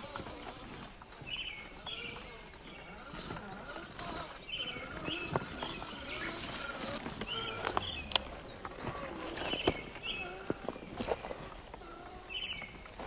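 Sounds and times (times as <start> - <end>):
birds chirping: 0.0 - 13.0
insects: 0.0 - 13.0
toy car clicking and knocking on rocks: 0.0 - 13.0.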